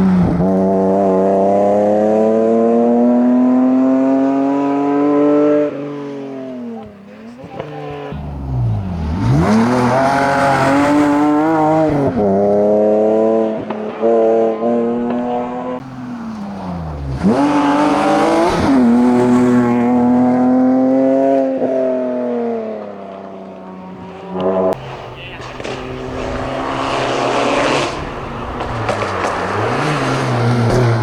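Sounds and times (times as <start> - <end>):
race car engine at full throttle: 0.0 - 31.0.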